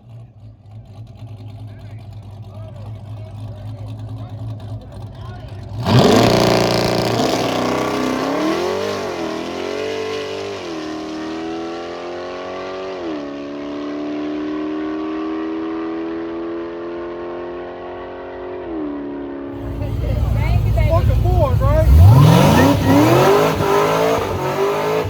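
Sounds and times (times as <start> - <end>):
car engine accelerating: 0.0 - 18.9, 19.5 - 25.0.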